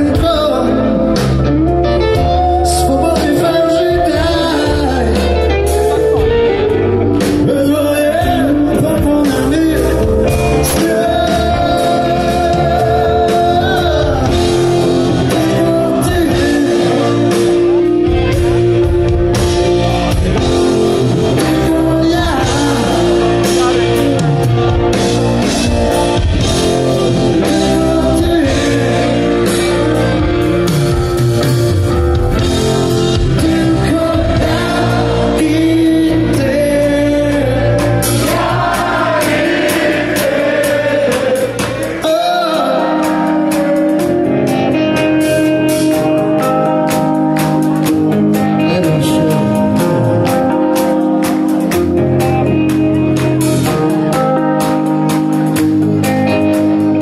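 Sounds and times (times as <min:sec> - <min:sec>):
lead singer vocals: 0:00.0 - 0:31.2, 0:31.9 - 0:47.1, 0:47.8 - 0:51.1
live rock band playing: 0:00.0 - 0:57.0.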